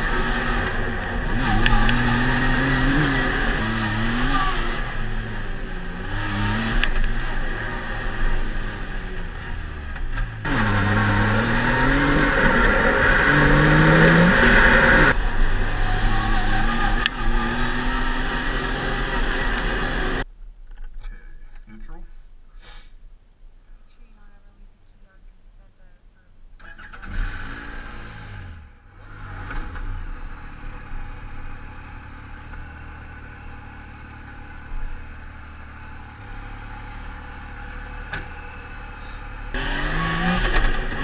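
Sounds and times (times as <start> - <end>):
engine revving: 0.0 - 20.3, 26.6 - 41.0.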